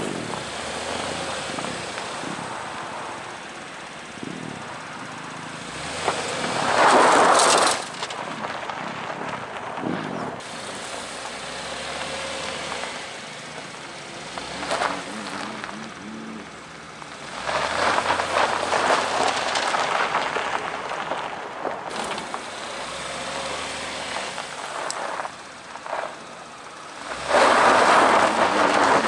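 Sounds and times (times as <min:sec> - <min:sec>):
car engine running low: 0:00.0 - 0:29.0
tyres crunching on dirt: 0:00.0 - 0:29.0.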